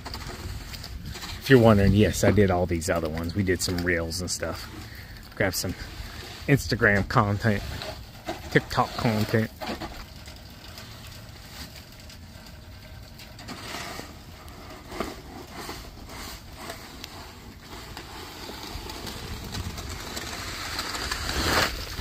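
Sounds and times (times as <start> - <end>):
low outdoor rumble: 0.0 - 22.0
snow shovel scraping concrete: 0.0 - 22.0.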